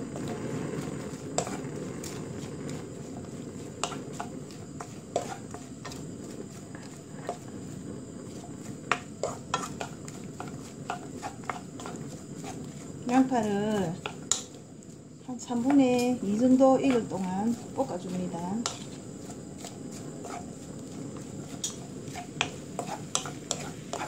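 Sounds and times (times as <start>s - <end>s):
wooden spoon scraping pan: 0.0s - 24.0s.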